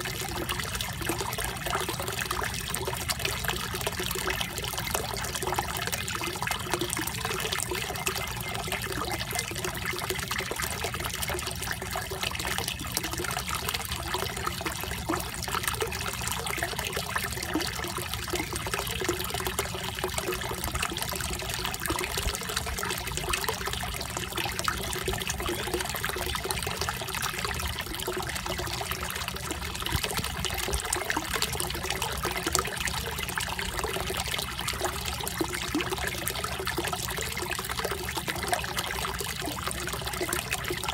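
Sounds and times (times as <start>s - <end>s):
water trickling into a pond: 0.0s - 40.9s.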